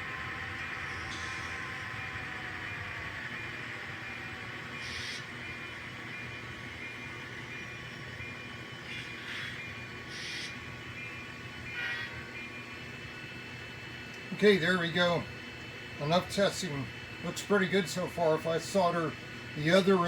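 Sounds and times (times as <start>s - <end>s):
model train whine: 0.0s - 20.0s.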